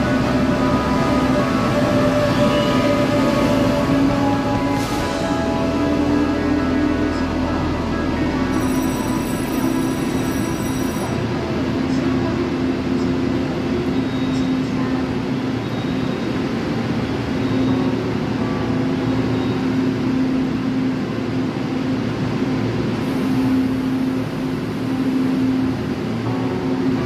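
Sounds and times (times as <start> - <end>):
train running hum: 0.0 - 27.0.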